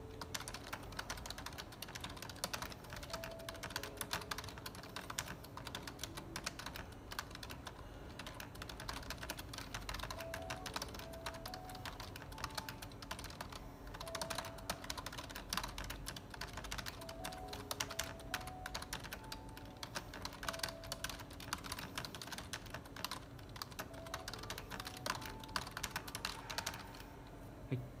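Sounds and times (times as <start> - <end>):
fast typing on keyboard: 0.0 - 27.2.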